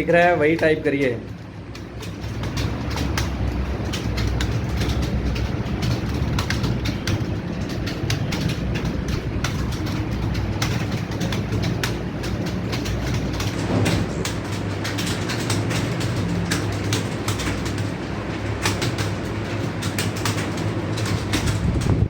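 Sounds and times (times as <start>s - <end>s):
keyboard typing clatter: 0.0s - 22.0s.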